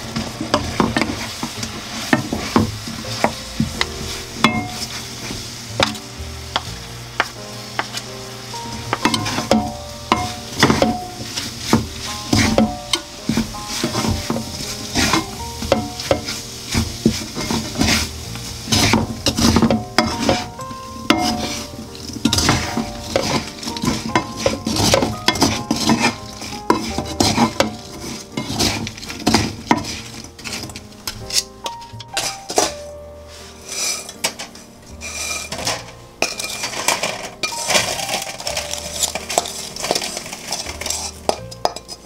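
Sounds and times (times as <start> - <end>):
light sizzling: 0.0 - 42.0
wooden spatula scraping frying pan: 0.0 - 42.0.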